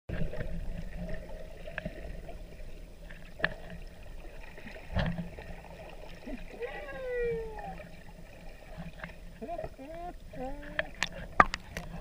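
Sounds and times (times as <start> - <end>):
muffled underwater rumble: 0.1 - 12.0.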